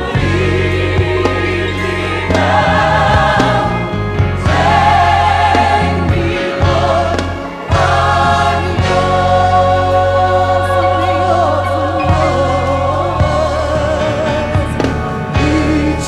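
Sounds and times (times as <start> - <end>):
band accompaniment: 0.0 - 16.0
deep bass line: 0.0 - 16.0
gospel choir singing: 0.0 - 16.0.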